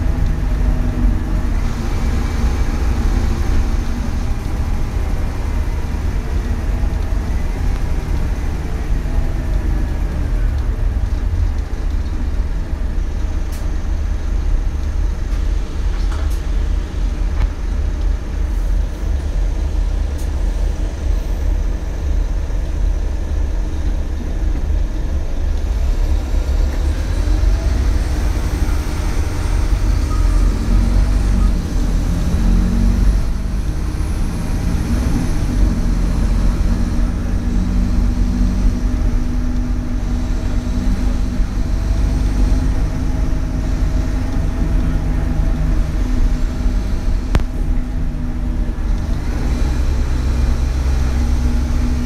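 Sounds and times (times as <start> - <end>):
bus engine idling: 0.0 - 52.0.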